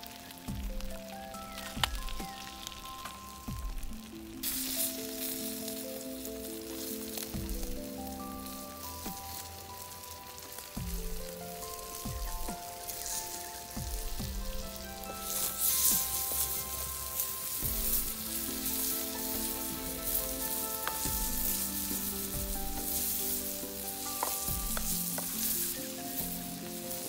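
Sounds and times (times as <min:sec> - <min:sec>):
background music: 0:00.0 - 0:27.0
vegetables sizzling in hot oil: 0:00.0 - 0:27.0
wooden spatula stirring: 0:01.5 - 0:27.0.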